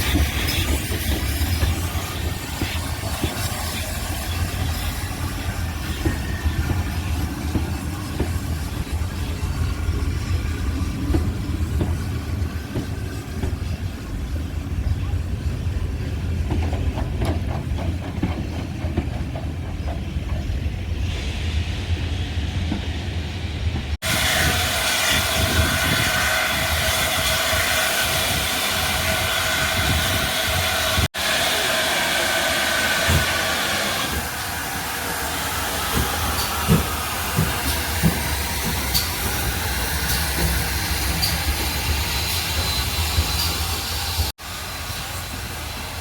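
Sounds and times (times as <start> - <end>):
steam hissing: 0.0 - 16.2, 20.8 - 46.0
low train rumble: 0.0 - 46.0.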